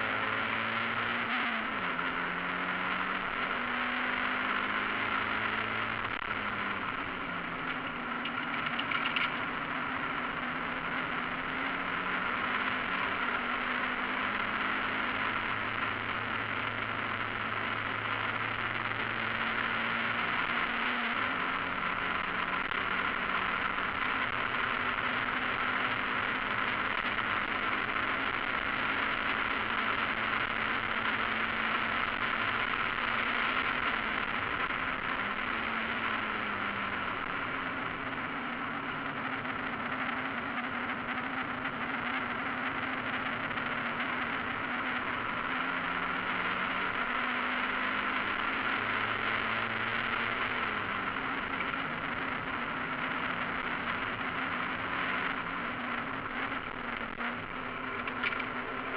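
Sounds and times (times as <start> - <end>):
race car engine: 0.0 - 58.9
wind and road noise: 0.0 - 58.9.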